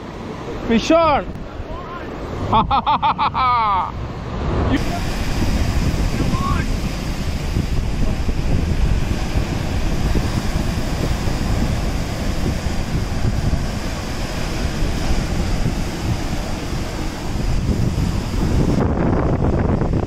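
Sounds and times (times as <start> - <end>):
sea surf on rocks: 0.0 - 20.0
wind buffeting microphone: 0.0 - 20.0.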